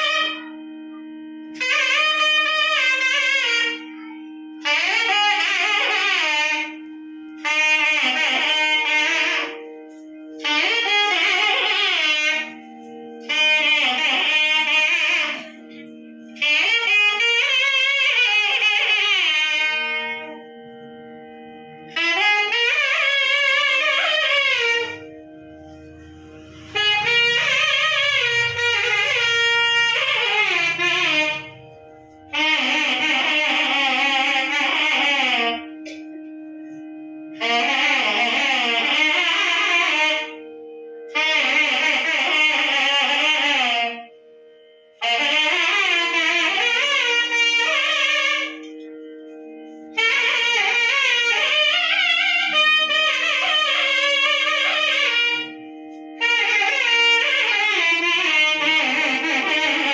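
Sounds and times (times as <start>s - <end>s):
reed wind instrument melody: 0.0s - 59.9s
steady drone: 0.0s - 59.9s.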